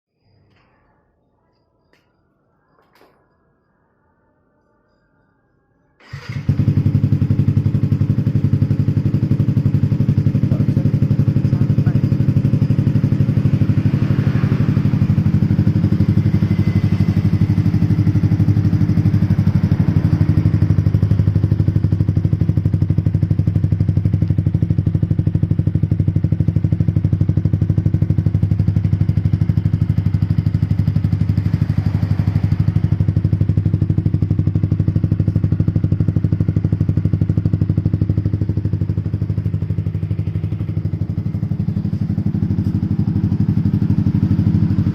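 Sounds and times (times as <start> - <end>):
motorcycle engine idling: 6.0 - 44.9.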